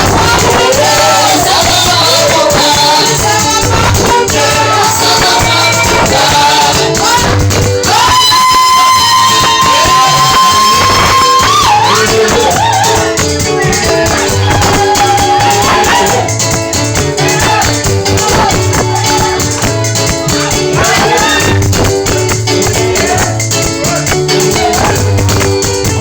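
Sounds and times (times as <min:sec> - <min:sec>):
beat and bass: 0:00.0 - 0:26.0
gospel singing: 0:00.0 - 0:26.0
shaker or tambourine: 0:00.0 - 0:26.0.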